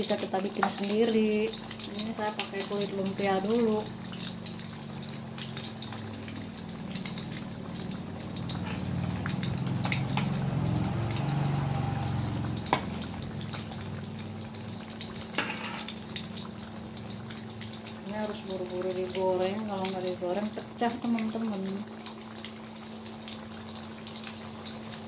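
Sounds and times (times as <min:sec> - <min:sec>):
hot oil sizzling and crackling: 0:00.0 - 0:25.0.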